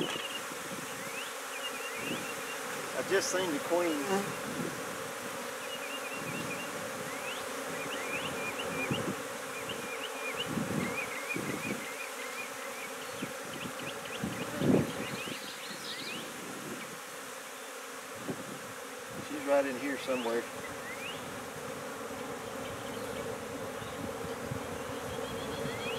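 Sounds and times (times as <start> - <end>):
bee swarm buzzing: 0.0 - 25.9.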